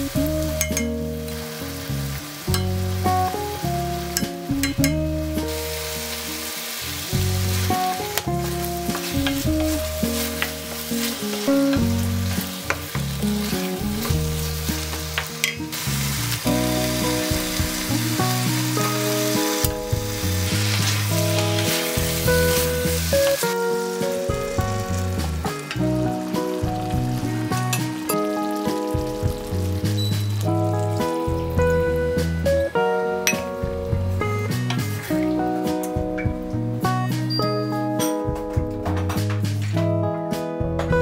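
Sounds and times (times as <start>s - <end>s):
food sizzling in a frying pan: 0.0s - 37.7s
background music: 0.0s - 41.0s.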